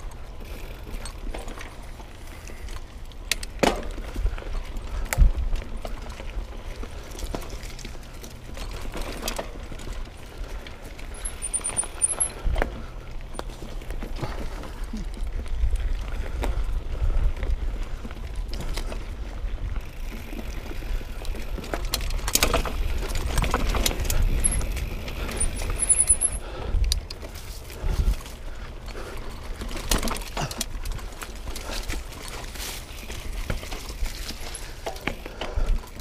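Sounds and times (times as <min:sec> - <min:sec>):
bike knocking and rattling: 0:00.0 - 0:36.0
bike tyres rumbling on trail: 0:00.0 - 0:36.0.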